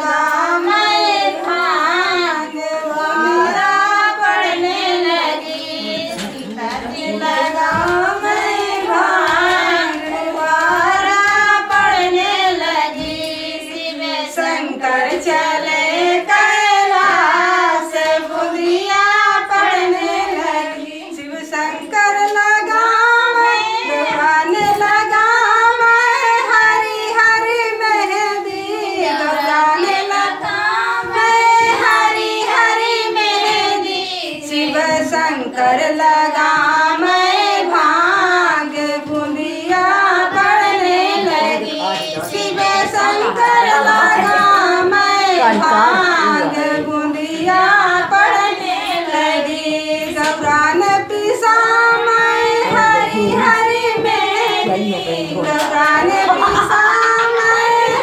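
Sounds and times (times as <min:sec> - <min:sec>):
women singing folk song: 0:00.0 - 0:58.0.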